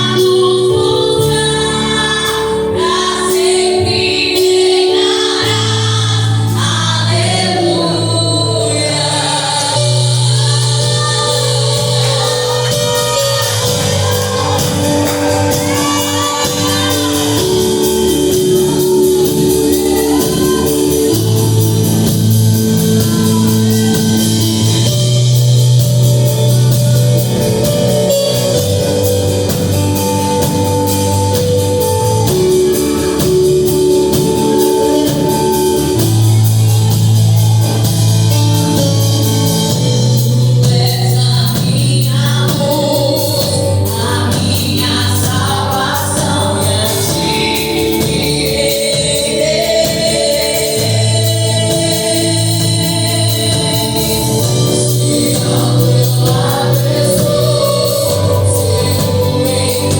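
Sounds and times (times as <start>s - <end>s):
held bass notes: 0.0s - 59.9s
sung vocals: 0.0s - 59.9s
steady drum beat: 10.0s - 59.9s.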